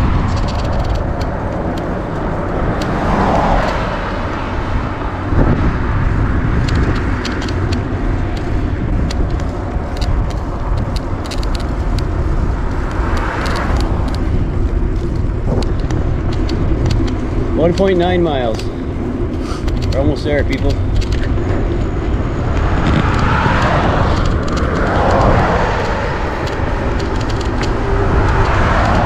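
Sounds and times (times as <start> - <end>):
bicycle tyre and road noise: 0.0 - 29.0
passing traffic: 0.0 - 29.0
wind buffeting microphone: 0.0 - 29.0
small clicks and rattles: 0.1 - 5.0, 6.5 - 29.0.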